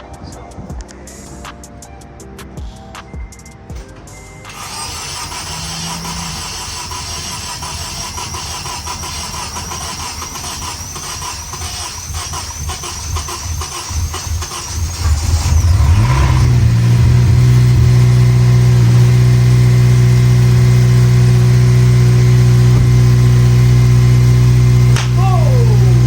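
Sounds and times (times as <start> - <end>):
starter motor cranking engine: 4.5 - 26.0.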